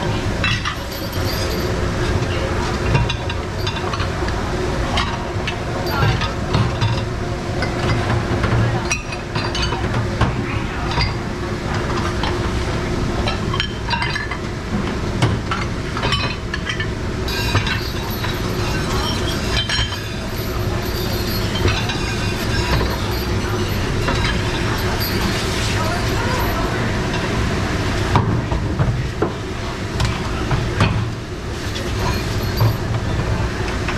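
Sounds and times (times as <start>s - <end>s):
dishes clinking and clattering: 0.0s - 12.6s, 13.2s - 27.4s, 28.1s - 33.9s
steady background hum: 0.0s - 33.9s.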